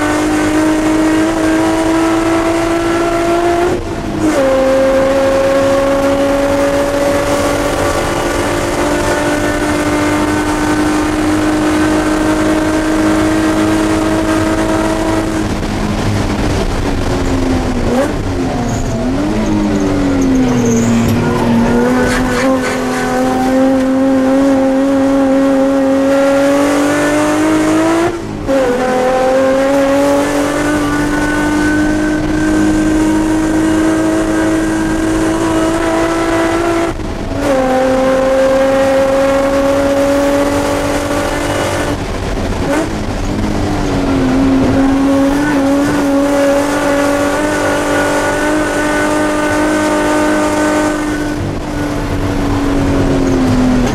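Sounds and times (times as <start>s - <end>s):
race car engine from inside cabin: 0.0s - 53.9s.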